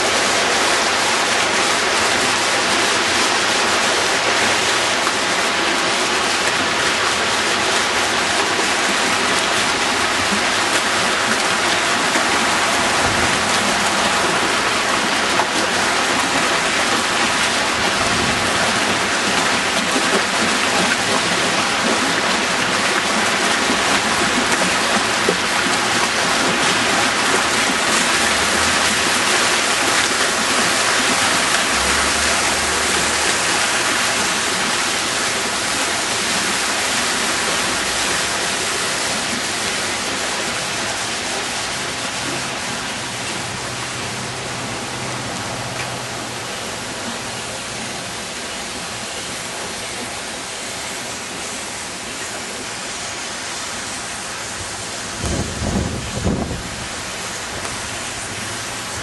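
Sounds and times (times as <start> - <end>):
fountain water splashing into pool: 0.0 - 59.0.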